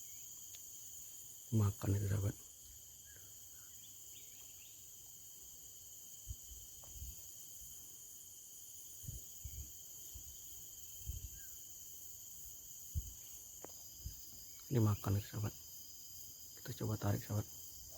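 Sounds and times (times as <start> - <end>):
insect chorus buzzing: 0.0 - 17.9.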